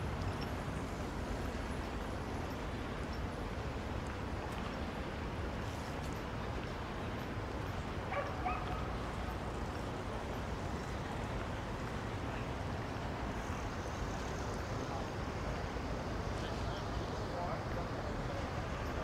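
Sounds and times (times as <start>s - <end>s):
low city rumble: 0.0s - 19.0s.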